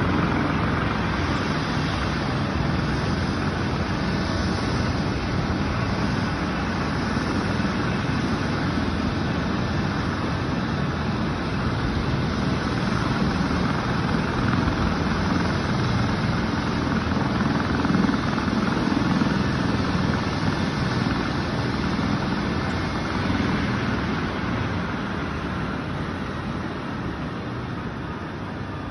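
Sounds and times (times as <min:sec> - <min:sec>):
helicopter engine and rotor: 0:00.0 - 0:28.9.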